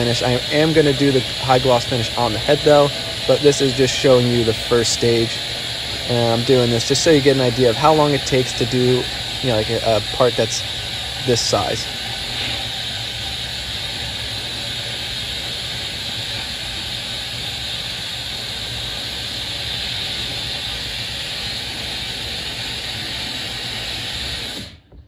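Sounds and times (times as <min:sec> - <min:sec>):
blast gun spraying hiss: 0:00.0 - 0:24.9
low hum: 0:00.0 - 0:25.0.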